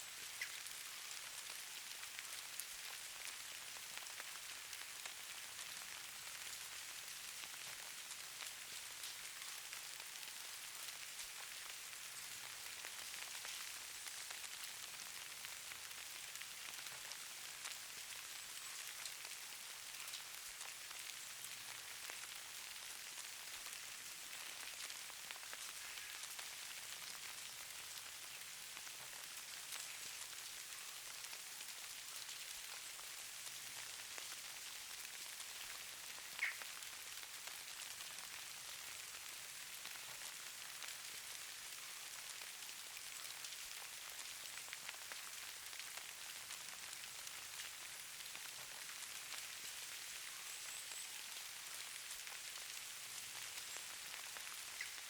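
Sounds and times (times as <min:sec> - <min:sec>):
falling snow hiss and patter: 0:00.0 - 0:55.0.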